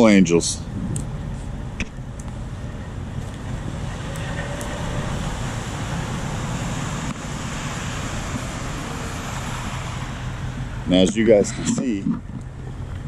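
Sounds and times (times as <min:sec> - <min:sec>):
truck and road traffic rumble: 0:00.0 - 0:13.0.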